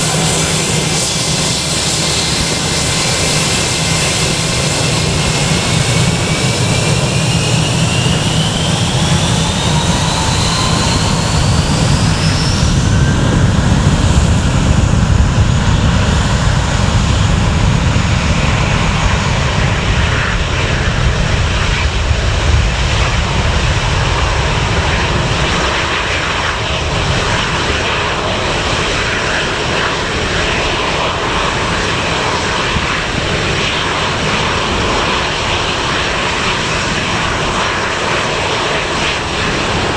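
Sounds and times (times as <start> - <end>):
jet engines spooling up: 0.0 - 39.9.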